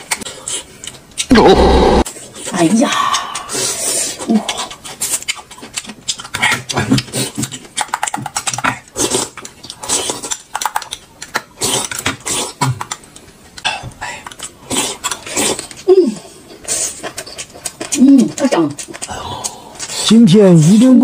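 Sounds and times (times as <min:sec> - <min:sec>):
wet chewing and lip-smacking: 0:00.0 - 0:01.3, 0:02.0 - 0:21.0.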